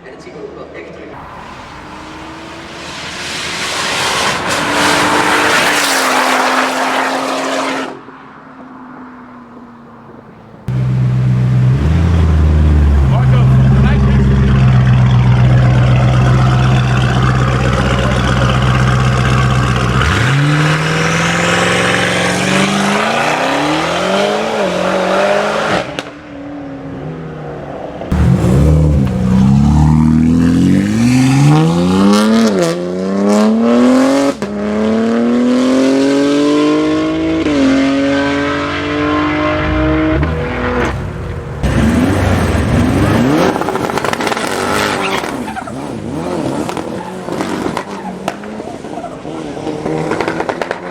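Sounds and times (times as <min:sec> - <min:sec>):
car engines accelerating: 0:01.1 - 0:50.9.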